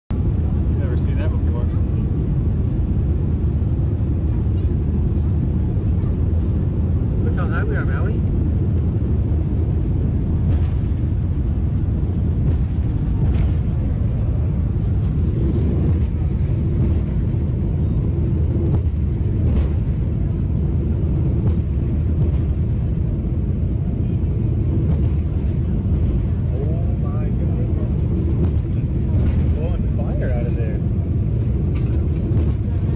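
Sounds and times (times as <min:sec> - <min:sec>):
jet airliner cabin rumble: 0:00.1 - 0:32.9.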